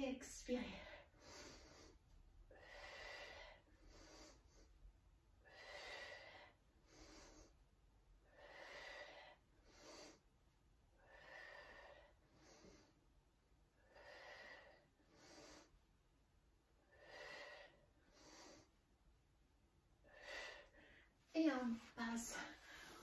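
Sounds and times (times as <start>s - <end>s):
woman breathing rhythmically: 0.1s - 21.4s, 22.2s - 23.0s.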